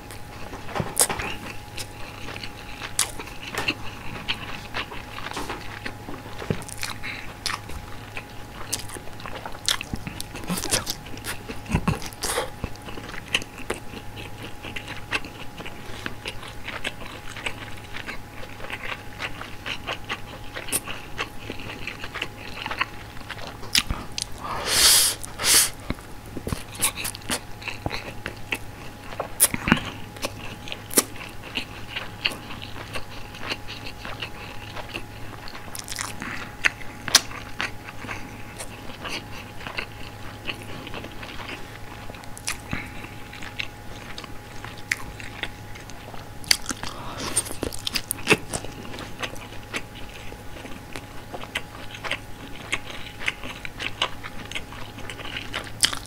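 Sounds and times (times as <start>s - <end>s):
person chewing rice: 0.0s - 56.0s.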